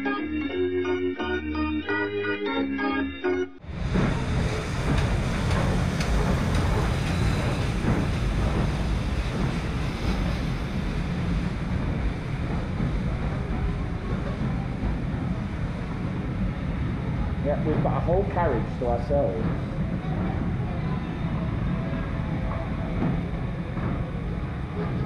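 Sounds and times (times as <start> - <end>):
train rumbling along rails: 3.6 - 25.0.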